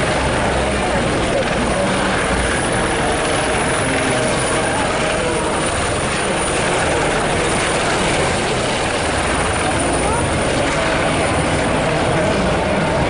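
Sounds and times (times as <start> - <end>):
helicopters hovering: 0.0 - 13.0.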